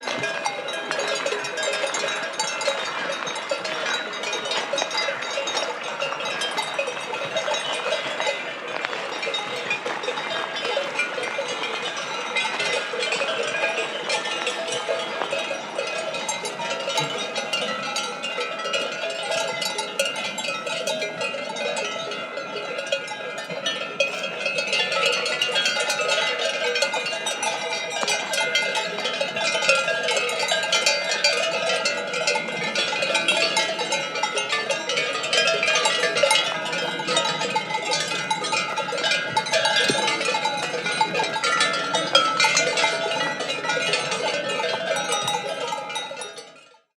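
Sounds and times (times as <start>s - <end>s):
cowbells clanking: 0.0s - 46.9s.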